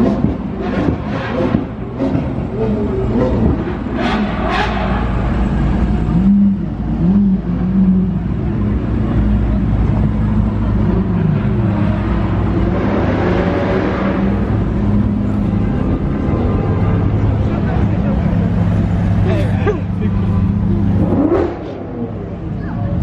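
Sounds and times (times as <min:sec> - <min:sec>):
car engines running: 0:00.0 - 0:23.0.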